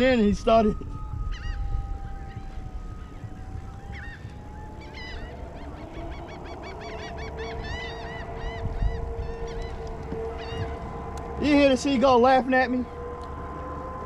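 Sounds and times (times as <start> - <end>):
gull laughing calls: 1.3 - 14.0.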